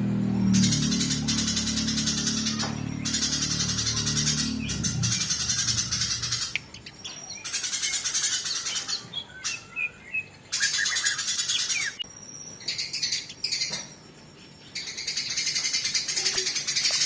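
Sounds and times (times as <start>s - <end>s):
sparrows chirping rapidly: 0.0s - 17.0s.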